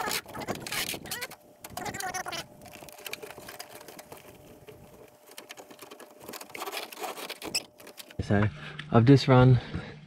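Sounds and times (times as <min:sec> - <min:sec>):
plastic conduit clicking and rustling: 0:00.0 - 0:08.2.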